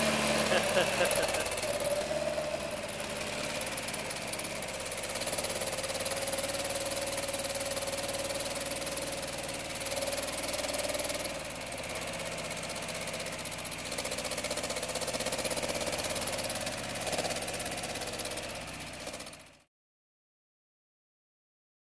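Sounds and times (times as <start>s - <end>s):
car engine running: 0.0s - 19.6s.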